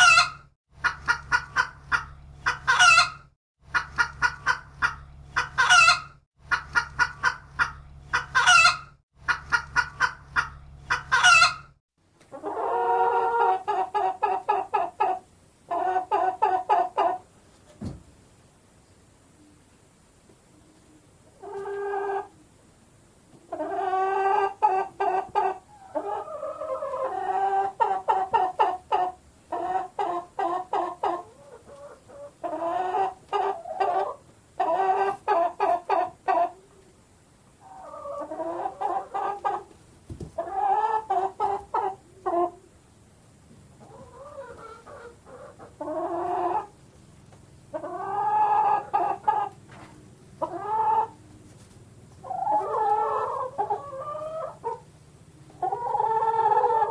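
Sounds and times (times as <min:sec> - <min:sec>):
hens clucking: 0:00.0 - 0:17.3, 0:20.8 - 0:22.4, 0:23.3 - 0:36.9, 0:37.5 - 0:42.8, 0:43.5 - 0:56.9.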